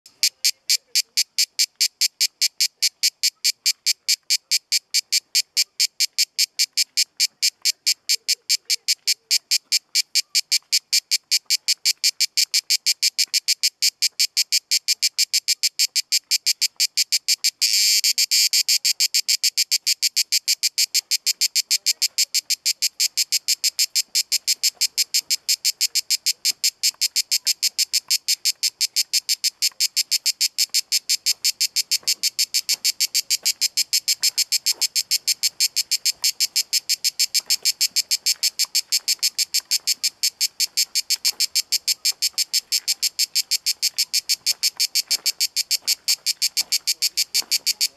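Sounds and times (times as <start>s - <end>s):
cicada rasping buzz: 0.2s - 47.9s.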